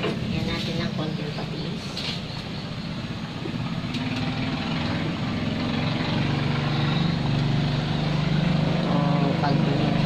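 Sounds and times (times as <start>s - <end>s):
gas burner hum: 0.0s - 10.0s.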